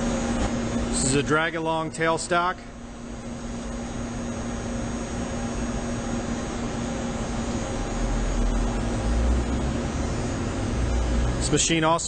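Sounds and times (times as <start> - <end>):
lathe machine whir: 0.0 - 12.0.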